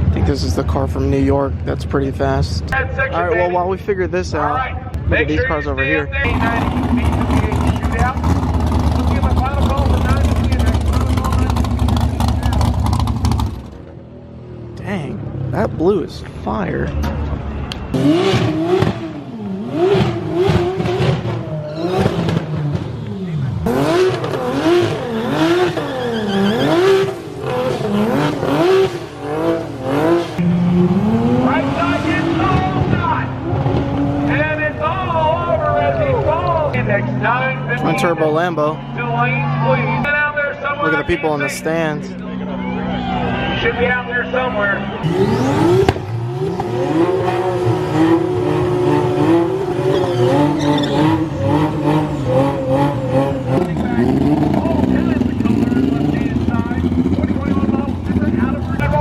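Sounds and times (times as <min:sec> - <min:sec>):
car engine revving: 0:06.2 - 0:59.0.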